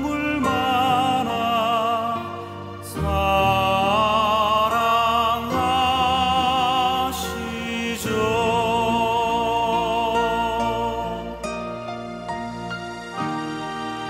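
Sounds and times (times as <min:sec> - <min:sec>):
worship song with held vocal notes: 0:00.0 - 0:12.3.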